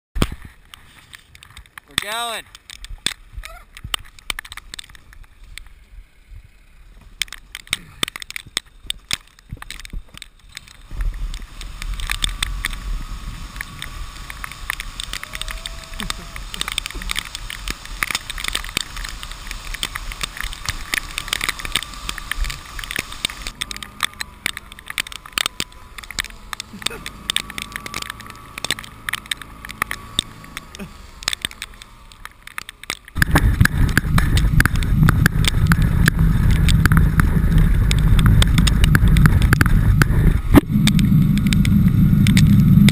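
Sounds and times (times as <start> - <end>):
faint steady whine: 0.2 - 42.9
sled scraping over snow: 0.2 - 42.9
low rumble: 2.8 - 42.9.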